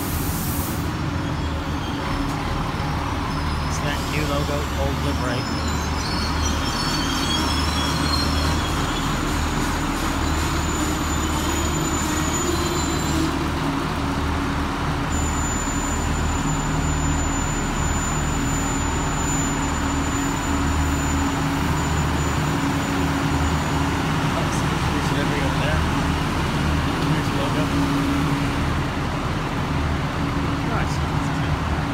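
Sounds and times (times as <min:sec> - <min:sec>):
electric train rumbling: 0:00.0 - 0:31.9.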